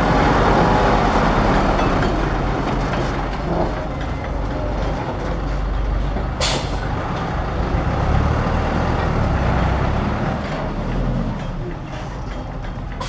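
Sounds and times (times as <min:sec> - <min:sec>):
diesel truck engine pulling away: 0:00.0 - 0:13.0.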